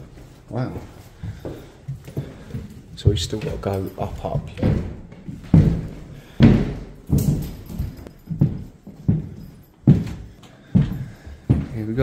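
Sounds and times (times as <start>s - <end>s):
footsteps on plywood floor: 0.0s - 12.0s.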